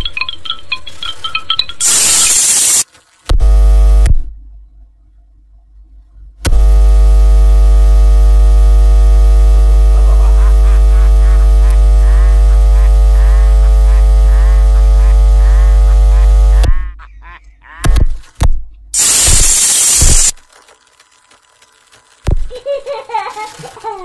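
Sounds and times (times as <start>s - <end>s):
loud electrical hum: 1.8s - 4.4s, 6.4s - 17.0s, 17.8s - 24.0s.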